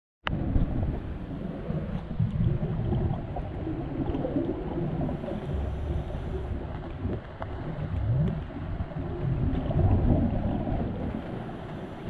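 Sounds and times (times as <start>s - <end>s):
underwater regulator bubbles gurgling: 0.3s - 12.0s.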